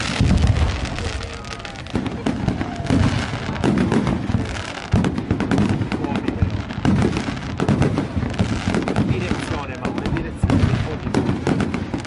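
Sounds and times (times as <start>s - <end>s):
firework shells booming: 0.0s - 12.0s
fireworks crackling: 0.0s - 12.0s.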